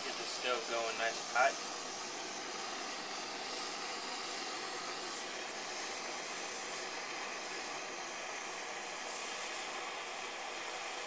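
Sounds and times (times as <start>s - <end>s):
gas stove flame hissing: 0.0s - 11.0s.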